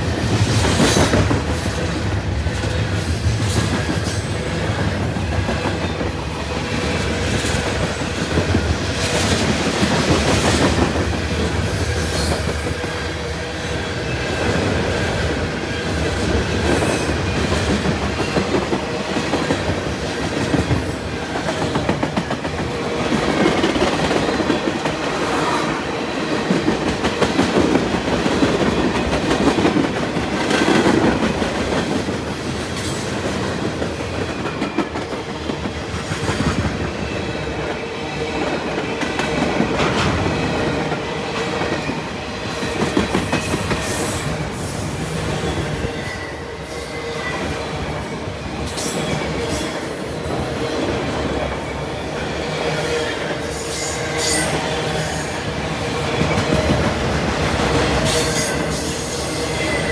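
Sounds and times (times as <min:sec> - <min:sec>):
train wheels clickety-clack: 0:00.0 - 0:59.9.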